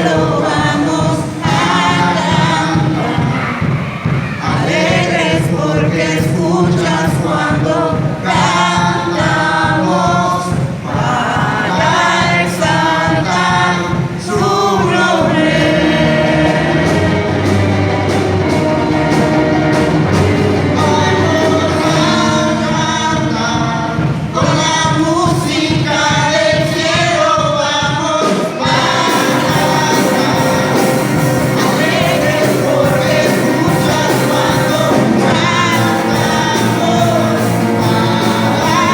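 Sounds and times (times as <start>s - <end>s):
instrumental accompaniment: 0.0s - 25.8s, 28.2s - 38.9s
several voices singing together: 0.0s - 38.9s.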